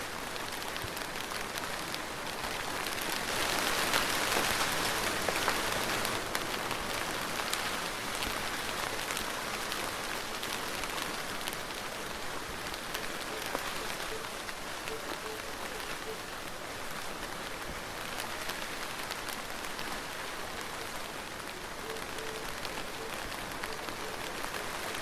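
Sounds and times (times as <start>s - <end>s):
soft rain falling: 0.0s - 25.0s.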